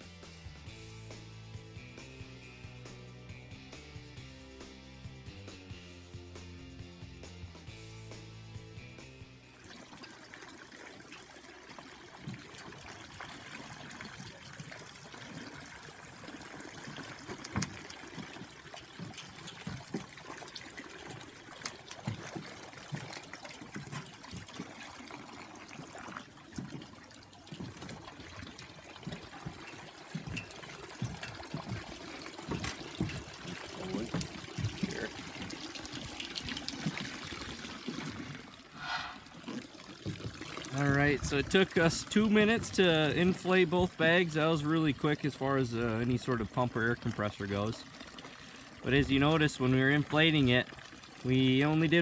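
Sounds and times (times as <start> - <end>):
water sloshing and bubbling: 9.4 - 52.0.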